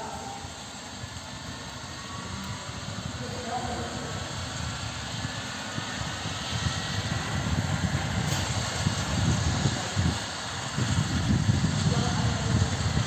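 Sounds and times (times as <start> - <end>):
helicopter low rumble: 0.0 - 13.0
helicopter turbine hiss: 0.0 - 13.0.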